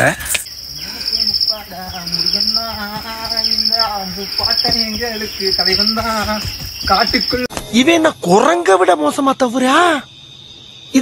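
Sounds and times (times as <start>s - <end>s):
insects pulsing trill: 0.0s - 11.0s.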